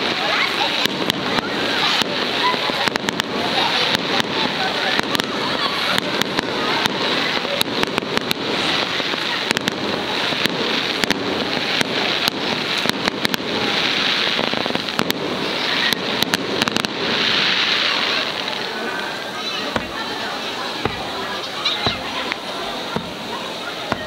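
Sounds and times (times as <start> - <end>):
firework cracks and pops: 0.0 - 24.0
fireworks fountains hissing: 0.0 - 24.0.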